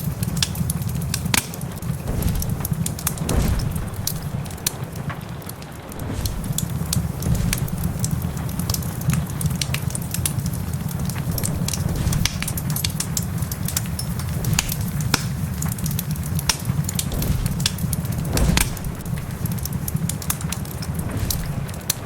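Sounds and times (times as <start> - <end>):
fireplace crackling: 0.0 - 22.0
heavy rain: 0.0 - 22.0.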